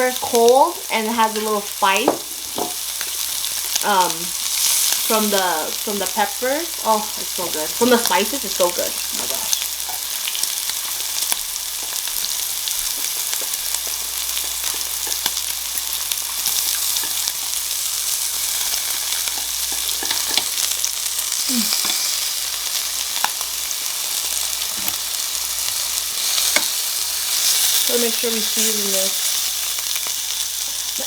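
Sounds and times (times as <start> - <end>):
meat sizzling on a grill: 0.0 - 31.0.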